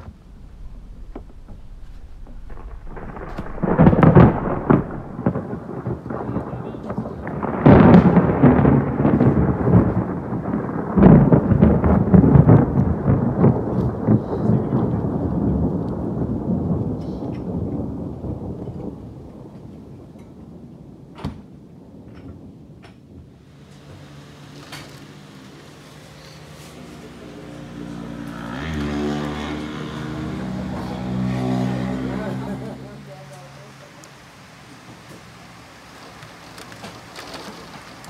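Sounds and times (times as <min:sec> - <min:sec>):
loud thunder rumbling: 0:00.0 - 0:33.1.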